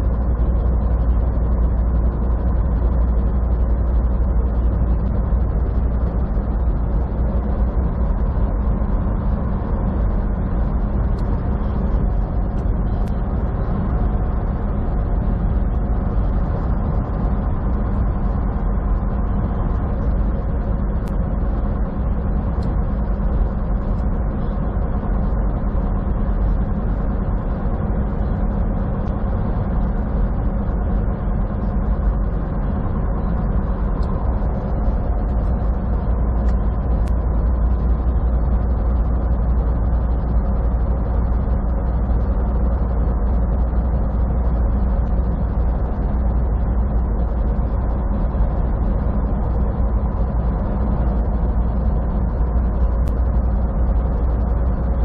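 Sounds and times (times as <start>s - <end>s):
truck engine and tyres humming: 0.0s - 55.0s.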